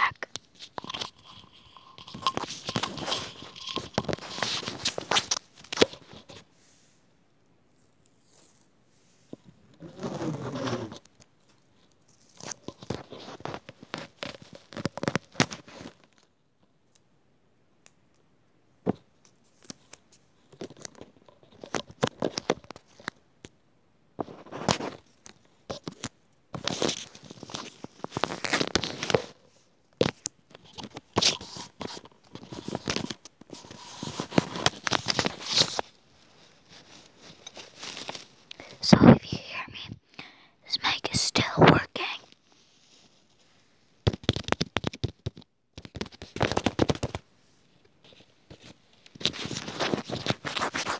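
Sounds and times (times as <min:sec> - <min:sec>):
close crinkling and crackling: 0:00.0 - 0:06.5, 0:09.3 - 0:17.0, 0:18.8 - 0:23.6, 0:24.2 - 0:50.9.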